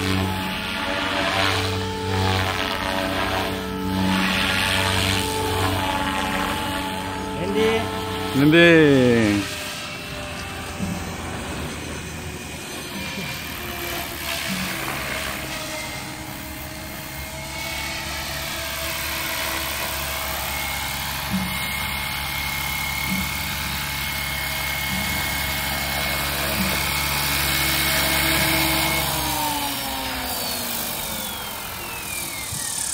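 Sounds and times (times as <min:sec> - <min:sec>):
electric helicopter rotor whine: 0:00.0 - 0:32.9.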